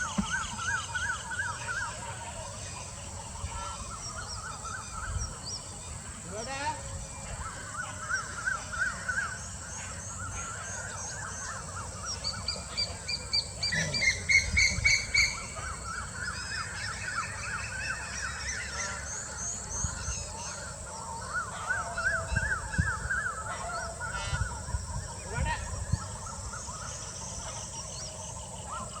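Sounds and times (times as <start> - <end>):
bird chorus: 0.0 - 29.0
sharp bird calls: 0.0 - 29.0.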